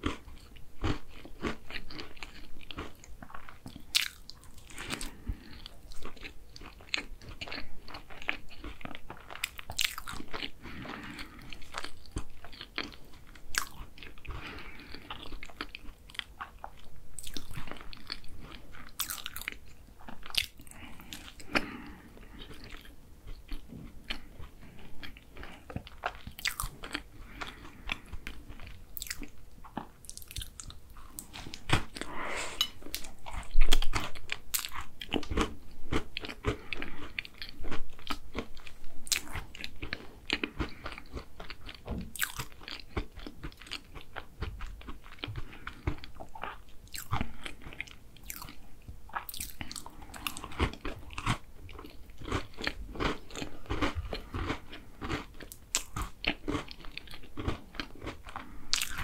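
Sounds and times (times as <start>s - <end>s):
chewing crisp pastry: 0.0s - 59.0s.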